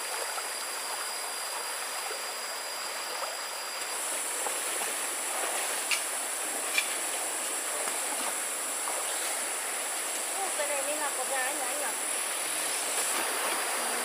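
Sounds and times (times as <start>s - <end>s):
stream water rushing: 0.0s - 14.0s
high even hiss: 2.4s - 14.0s.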